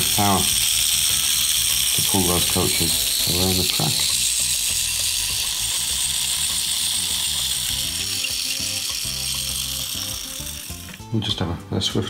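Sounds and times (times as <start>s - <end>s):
clockwork motor whirring: 0.0s - 11.2s.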